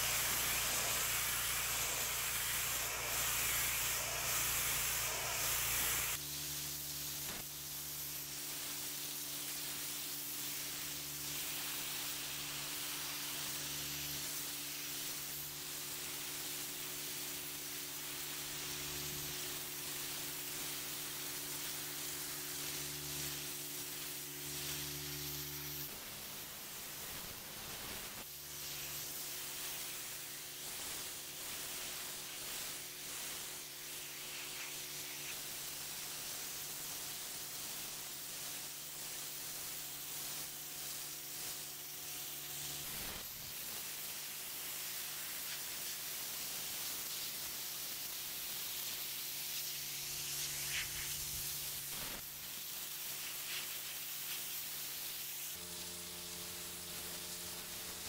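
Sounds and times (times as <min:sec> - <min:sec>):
pressure washer spraying pavement: 0:00.0 - 0:58.0.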